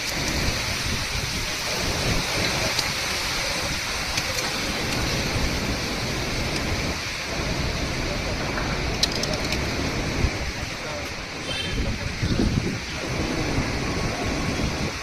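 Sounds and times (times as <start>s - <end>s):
wind and rain rushing: 0.0s - 15.0s
wind buffeting microphone: 0.0s - 15.0s.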